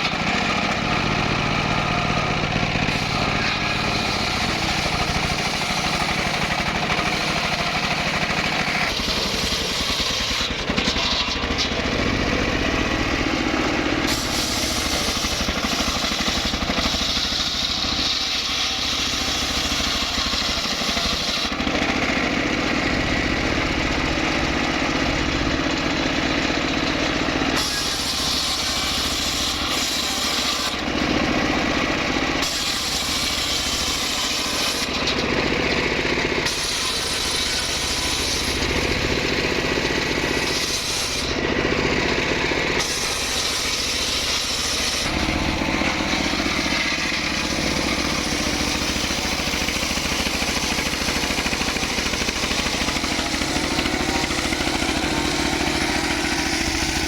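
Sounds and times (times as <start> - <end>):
engine-driven wood saw running: 0.0 - 57.0.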